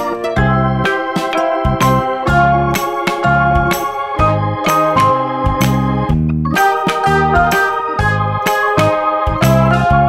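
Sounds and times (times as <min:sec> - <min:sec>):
electronic keyboard music with beat: 0:00.0 - 0:10.0.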